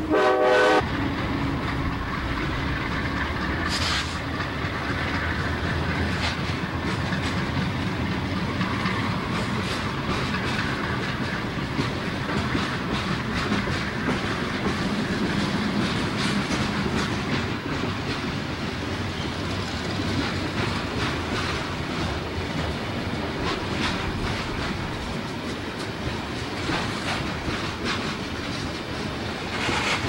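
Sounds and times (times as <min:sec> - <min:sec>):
freight train cars rumbling: 0:00.0 - 0:30.0
wheels clicking on rails: 0:00.8 - 0:30.0.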